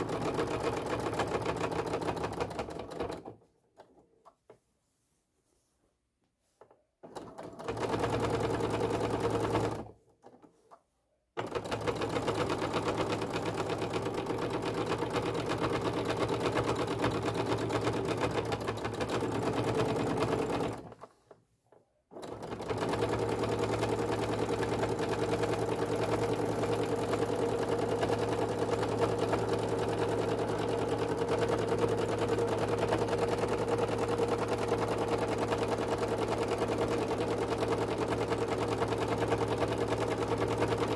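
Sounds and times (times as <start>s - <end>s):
sewing machine stitching: 0.0s - 4.0s, 7.0s - 10.8s, 11.4s - 21.4s, 22.1s - 40.9s.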